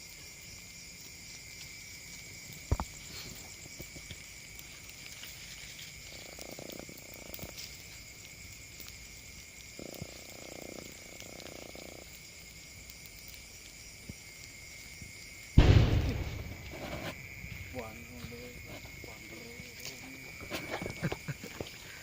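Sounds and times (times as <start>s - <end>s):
high insect drone: 0.0s - 22.0s
pulsing frog calls: 2.6s - 22.0s.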